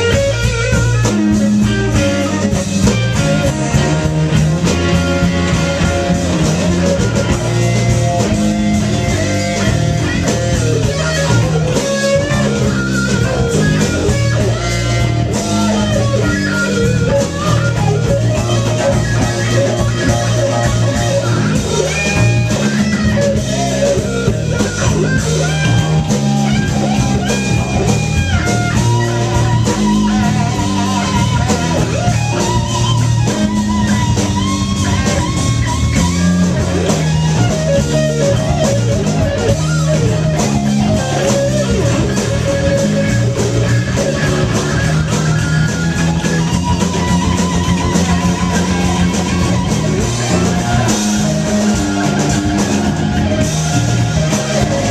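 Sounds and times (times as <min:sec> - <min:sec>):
bass guitar line: 0:00.0 - 0:54.9
electric guitar soloing: 0:00.0 - 0:54.9.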